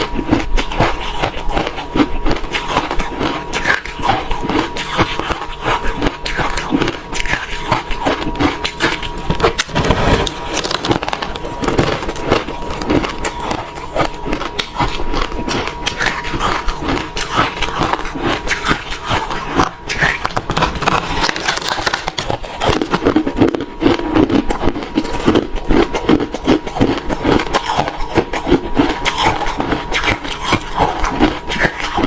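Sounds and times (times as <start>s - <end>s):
crushed ice being chewed: 0.0s - 32.0s.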